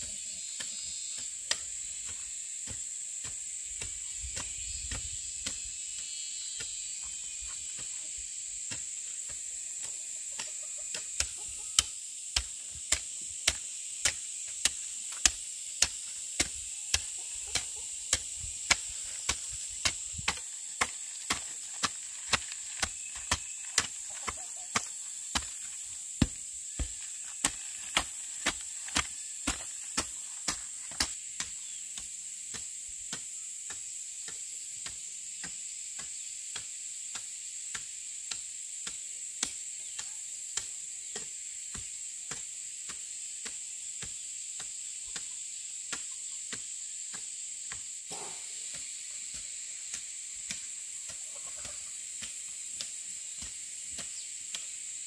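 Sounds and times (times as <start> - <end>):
high-pitched insect hum: 0.0 - 55.0
hoe chopping dry soil: 0.0 - 55.0.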